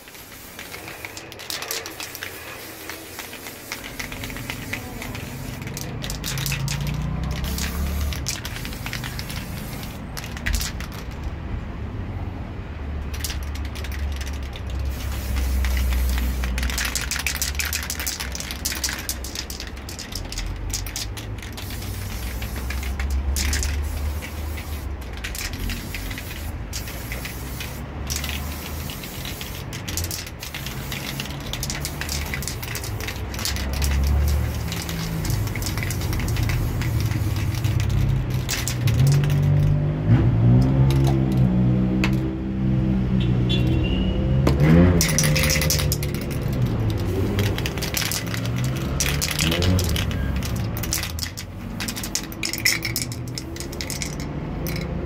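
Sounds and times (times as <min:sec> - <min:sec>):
aerosol spray can hissing: 0:00.0 - 0:11.0, 0:13.2 - 0:39.5, 0:45.0 - 0:54.8.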